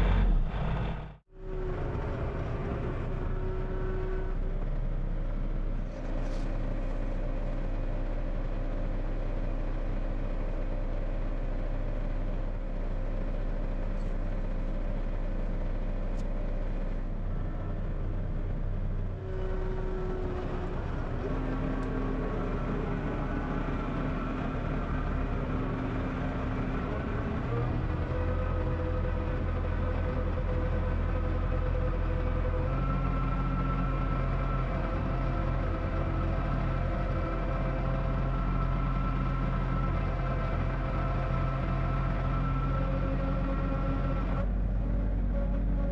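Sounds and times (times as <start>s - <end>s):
motor vehicle engine hum: 0.0s - 45.9s
road noise: 0.0s - 45.9s.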